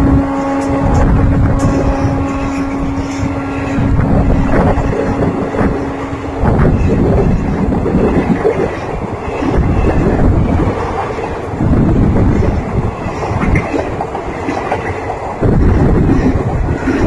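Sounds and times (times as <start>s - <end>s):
steady hum: 0.0s - 14.3s
train wheels on rails: 0.0s - 17.0s.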